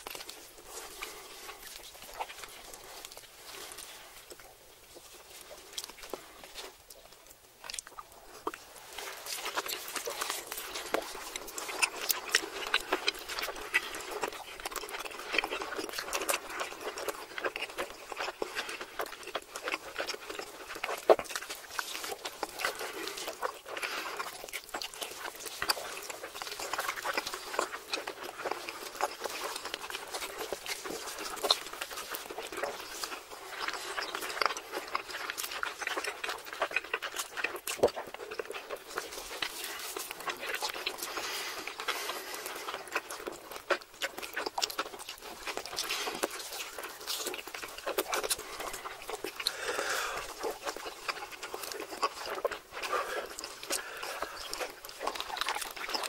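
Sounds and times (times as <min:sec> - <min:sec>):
chewing and lip-smacking: 0:00.0 - 0:56.0.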